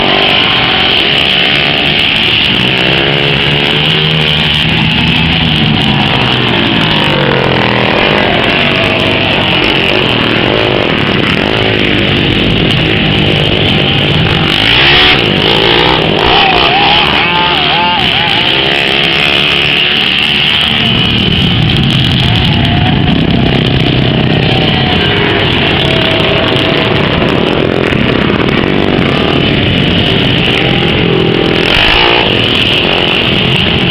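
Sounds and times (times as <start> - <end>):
race car engines passing: 0.0 - 33.9.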